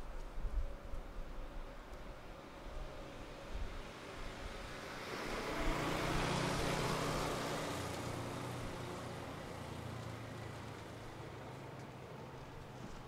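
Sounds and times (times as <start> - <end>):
motor scooter passing by: 2.4 - 13.0.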